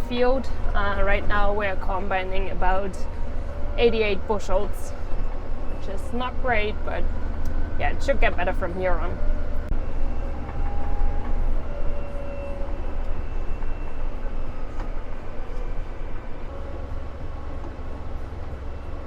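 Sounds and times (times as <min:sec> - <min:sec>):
combine harvester rumbling: 0:00.0 - 0:19.0.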